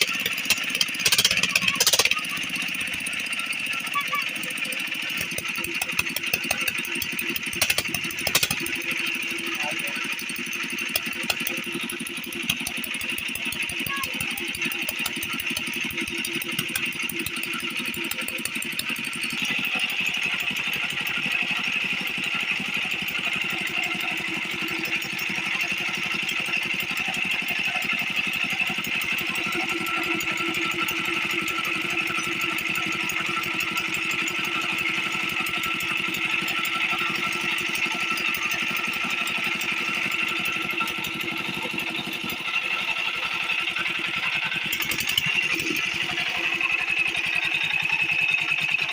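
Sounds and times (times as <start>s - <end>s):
diesel water pump engine running: 0.0s - 48.9s.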